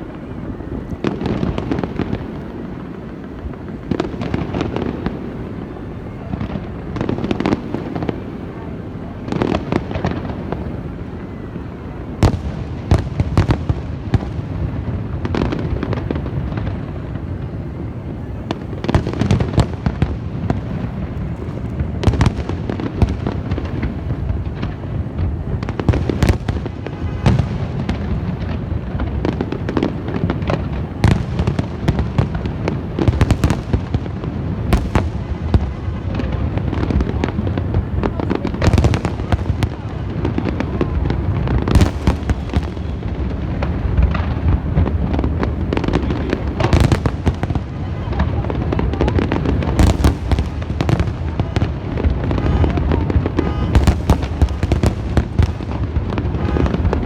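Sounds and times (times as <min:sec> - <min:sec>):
fireworks booms and crackling: 0:00.0 - 0:57.0
sharp loud fireworks cracks: 0:00.0 - 0:57.0.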